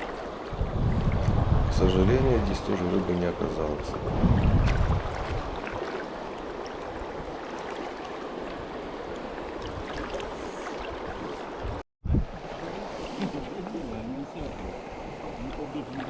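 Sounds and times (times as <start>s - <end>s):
river water rushing: 0.0s - 11.7s, 12.3s - 16.0s.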